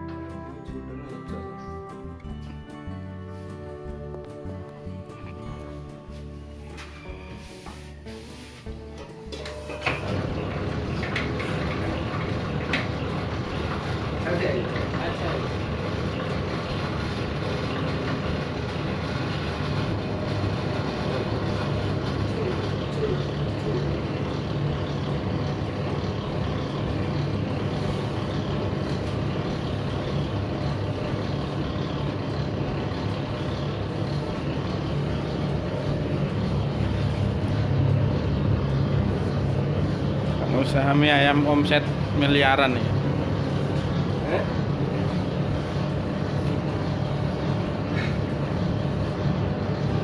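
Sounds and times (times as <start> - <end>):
noodle machine mechanical hum: 3.7 - 50.0.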